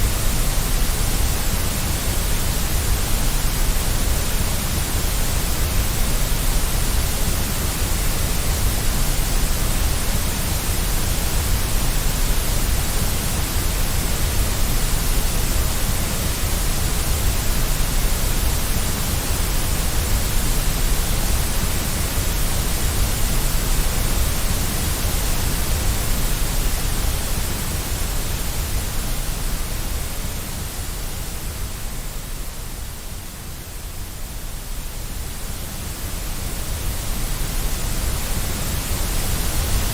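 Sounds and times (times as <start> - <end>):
white noise hiss with rumbling: 0.0 - 39.9.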